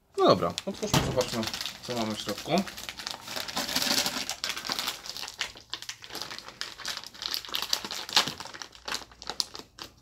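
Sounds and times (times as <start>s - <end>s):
plastic foil bag crinkling: 0.2s - 10.0s.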